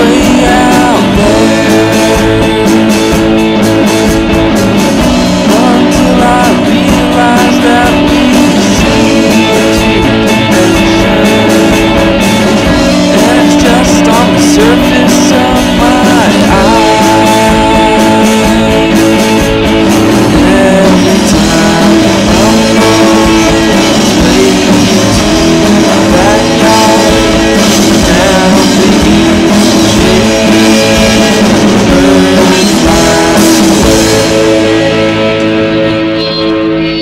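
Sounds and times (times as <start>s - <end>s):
rock song with guitar and singing: 0.0s - 37.0s.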